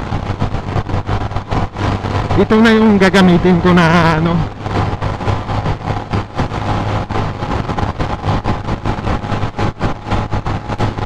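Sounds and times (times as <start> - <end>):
motorcycle engine cruising: 0.0 - 11.0
wind rushing over microphone: 0.0 - 11.0.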